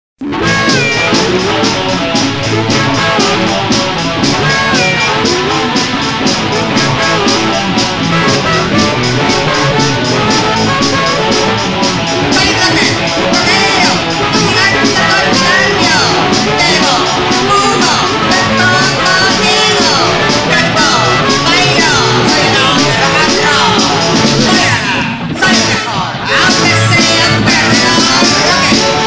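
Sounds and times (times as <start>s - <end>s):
rock and roll song: 0.2s - 29.0s.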